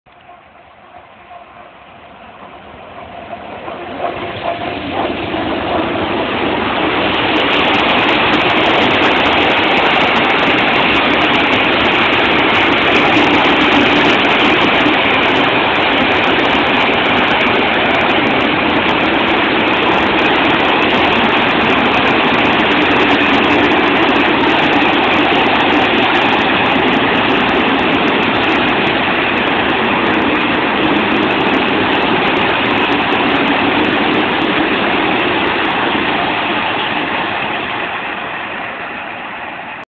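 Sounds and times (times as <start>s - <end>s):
freight train wheels rumbling: 0.1s - 39.9s.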